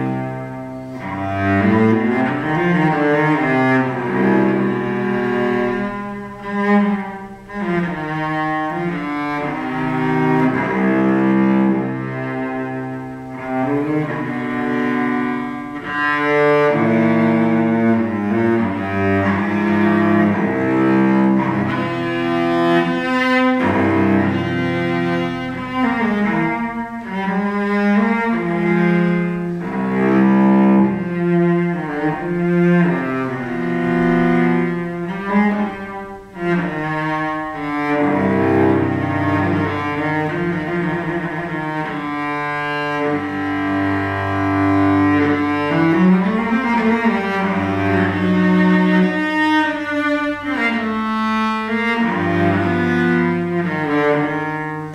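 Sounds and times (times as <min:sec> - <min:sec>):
bowed cello melody: 0:00.0 - 0:54.9.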